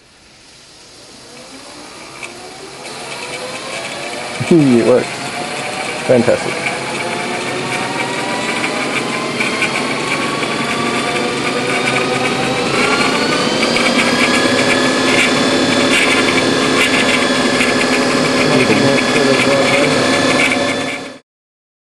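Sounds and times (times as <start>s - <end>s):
electric motor whine: 0.0s - 21.2s
fast rattle of clicks: 2.2s - 21.2s.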